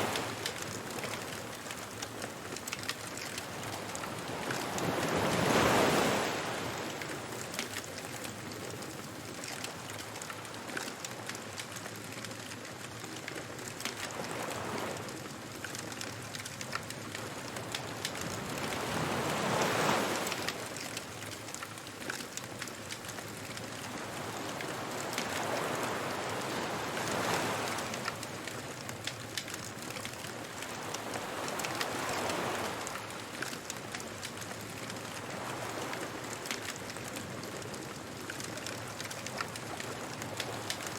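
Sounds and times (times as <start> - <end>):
ocean waves washing ashore: 0.0 - 40.9
wood fire crackling: 0.0 - 40.9.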